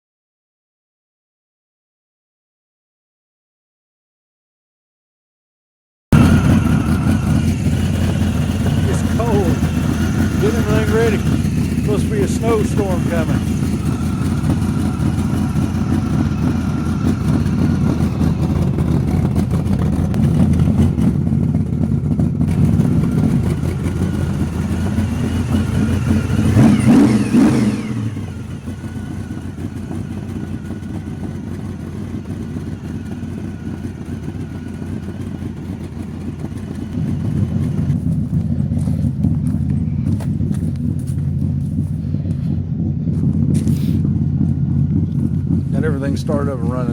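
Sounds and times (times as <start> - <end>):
old car engine idling: 6.1 - 46.9.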